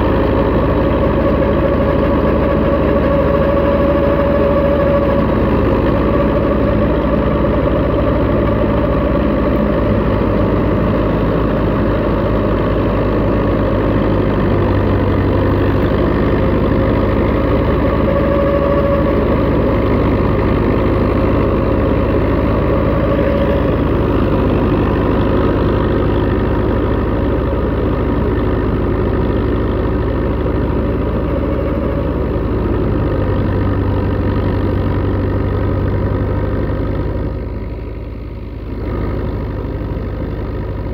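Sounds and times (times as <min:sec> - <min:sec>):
thresher whine: 0:00.0 - 0:40.9
tractor diesel engine running: 0:00.0 - 0:40.9.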